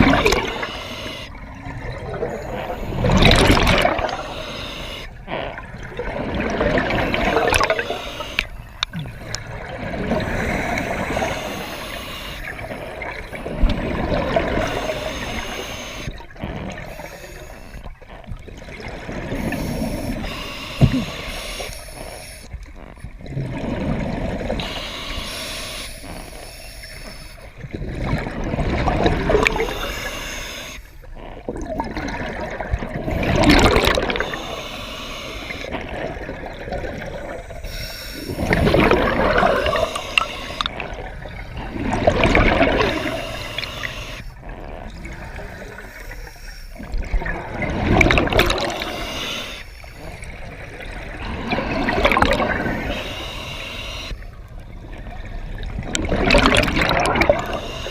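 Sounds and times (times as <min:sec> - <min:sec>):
water gurgling and splashing: 0:00.0 - 0:57.9.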